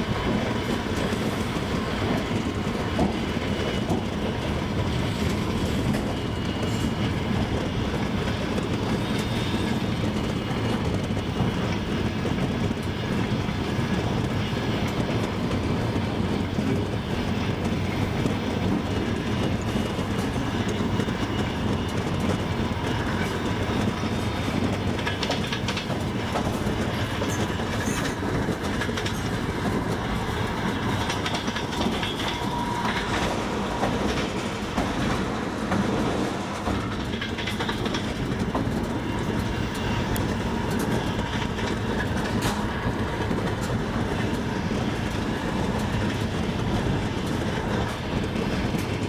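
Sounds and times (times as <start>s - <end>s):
train wheels clattering: 0.0s - 49.0s.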